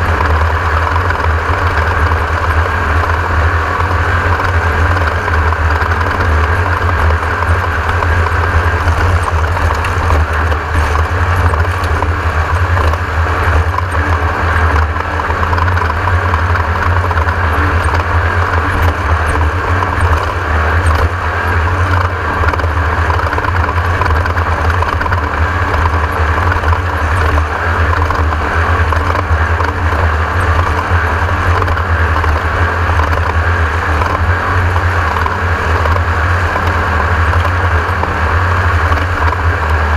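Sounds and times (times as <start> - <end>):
mechanical and road noise: 0.0 - 39.9
race car engine drone: 0.0 - 39.9.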